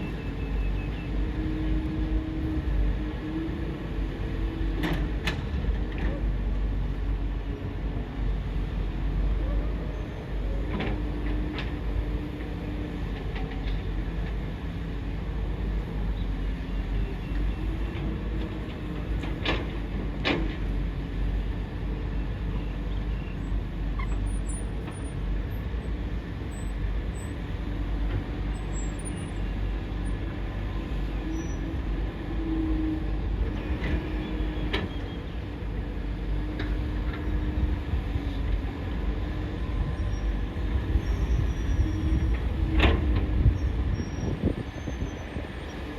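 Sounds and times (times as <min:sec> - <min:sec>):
excavator rumbling: 0:00.0 - 0:45.9.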